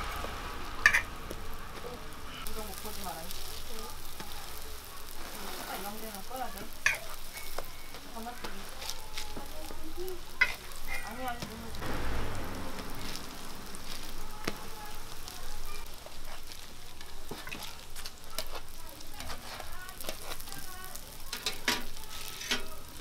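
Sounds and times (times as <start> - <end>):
food sizzling in oil on griddle: 0.0 - 23.0.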